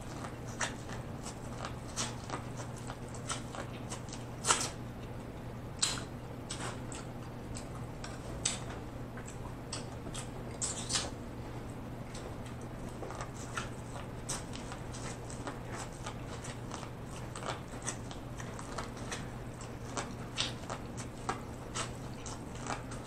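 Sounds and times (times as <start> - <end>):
crunchy eating of corn: 0.0 - 23.0
steady low hum: 0.0 - 23.0.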